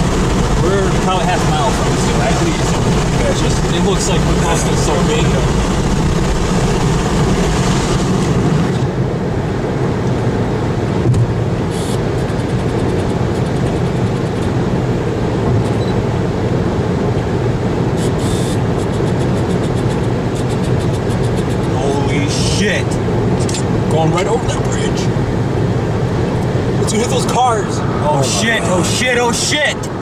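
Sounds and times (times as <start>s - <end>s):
vehicle rumble from inside cabin: 0.0s - 30.0s.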